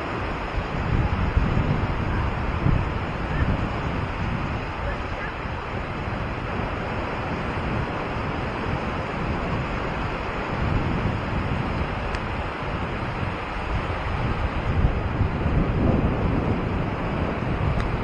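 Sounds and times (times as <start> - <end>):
waves washing on sandy shore: 0.0 - 18.0
wind buffeting microphone: 0.0 - 18.0.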